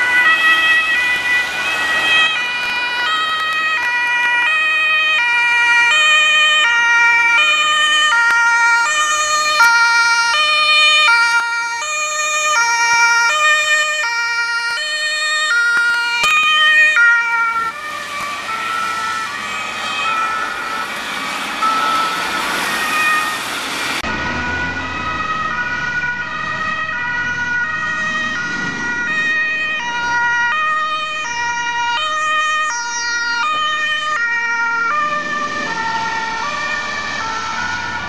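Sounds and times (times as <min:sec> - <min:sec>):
two-tone emergency siren: 0:00.0 - 0:38.0.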